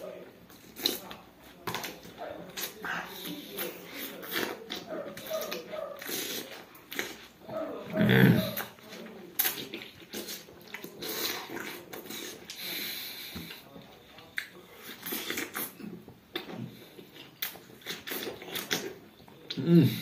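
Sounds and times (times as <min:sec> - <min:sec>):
person eating watermelon: 0:00.0 - 0:20.0.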